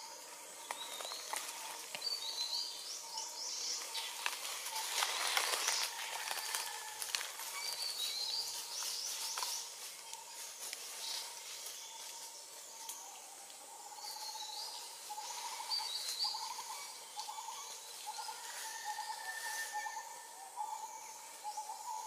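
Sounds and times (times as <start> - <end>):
bird chirping: 0.0 - 6.8, 7.4 - 22.0
leaves and twigs rustling: 0.6 - 20.6.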